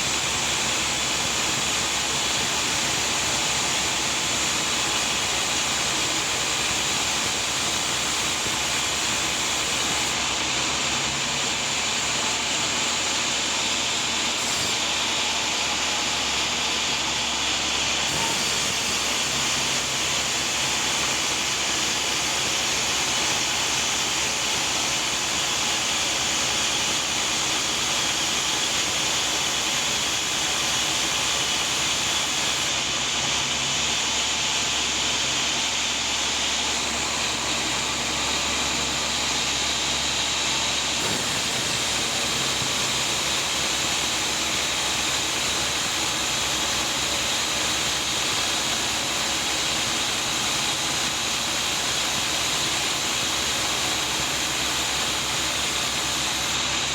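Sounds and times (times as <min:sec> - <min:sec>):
sawmill saw cutting log: 0:00.0 - 0:56.9.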